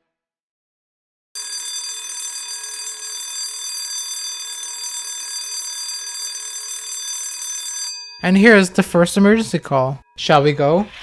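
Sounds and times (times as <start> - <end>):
alarm bell ringing: 1.4 - 10.6.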